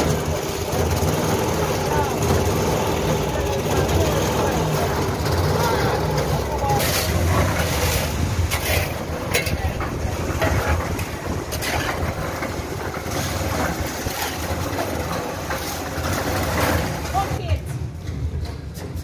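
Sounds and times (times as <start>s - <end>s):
hand tool scraping wet concrete: 0.0s - 17.4s
concrete mixer engine running: 0.0s - 19.0s.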